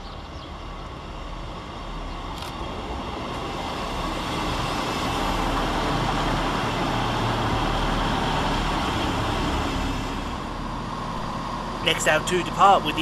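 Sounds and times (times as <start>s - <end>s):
diesel train running past: 0.0s - 13.0s.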